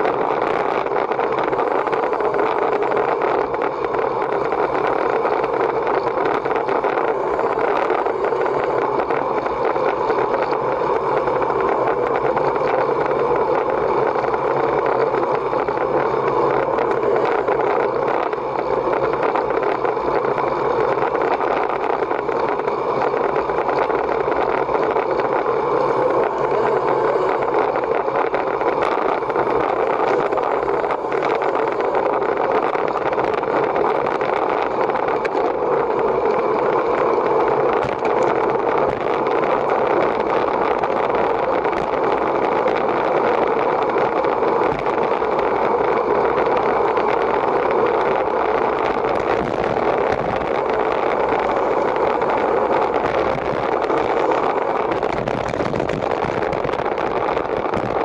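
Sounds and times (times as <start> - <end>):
bicycle tyre noise: 0.0 - 58.0
wind on microphone: 0.0 - 58.0.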